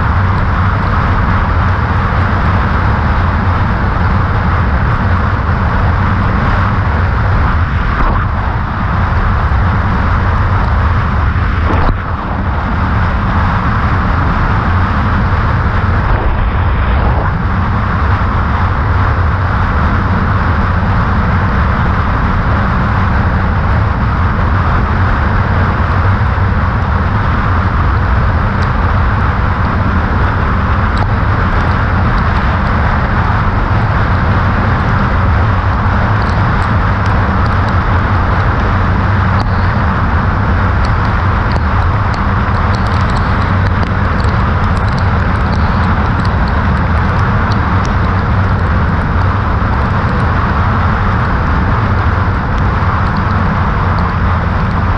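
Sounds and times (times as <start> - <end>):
road noise: 0.0 - 54.9
wind rushing over microphone: 0.0 - 54.9.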